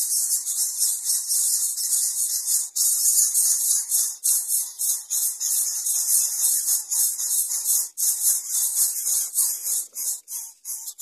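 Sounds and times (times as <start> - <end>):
nestlings begging with hissing rasps: 0.0 - 11.0.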